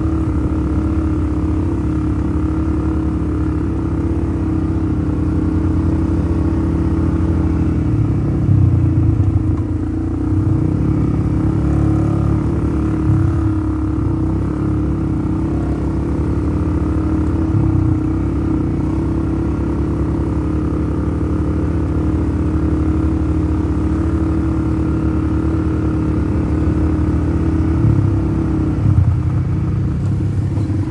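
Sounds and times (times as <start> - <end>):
all-terrain vehicle engine running: 0.0 - 30.9.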